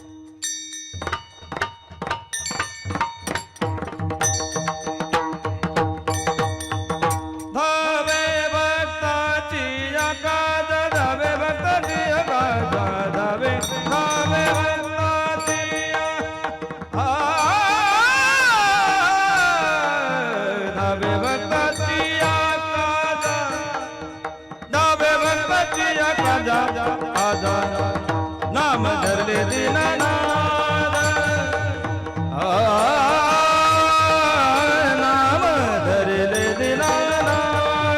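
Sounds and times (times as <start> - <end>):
man singing: 6.3 - 37.9.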